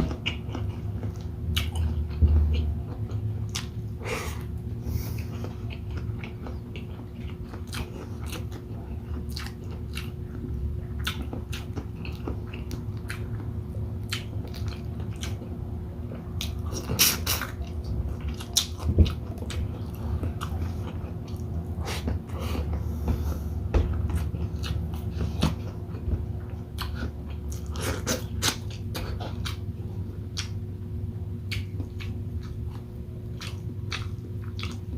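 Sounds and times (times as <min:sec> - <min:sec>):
person chewing and crunching: 0:00.0 - 0:34.9
steady low hum: 0:00.0 - 0:34.9.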